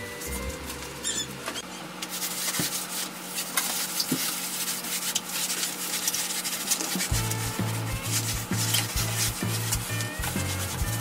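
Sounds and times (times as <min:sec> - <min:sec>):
hand scratching on floor: 0:02.1 - 0:11.0.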